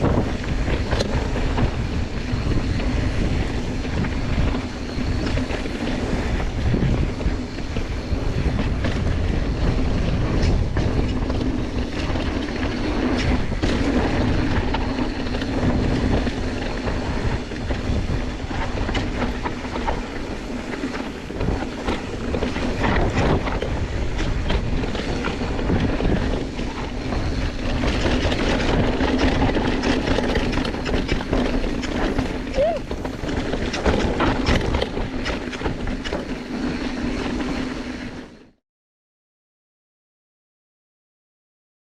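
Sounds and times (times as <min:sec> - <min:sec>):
bike clicks and rattles: 0:00.0 - 0:38.2
tyres rumbling on dirt: 0:00.0 - 0:38.4
wind on camera: 0:00.0 - 0:38.4.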